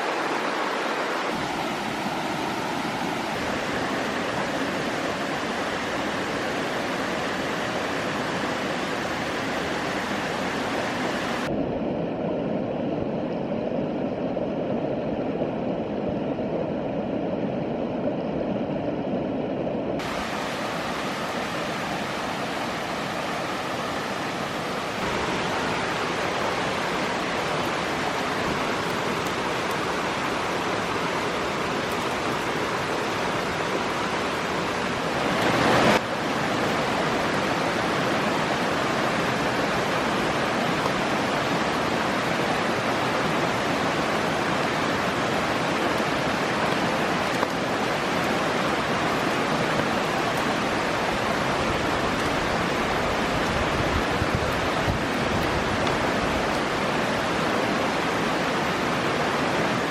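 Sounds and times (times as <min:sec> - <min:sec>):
stream water rushing: 0:00.0 - 0:11.7, 0:18.3 - 0:59.9.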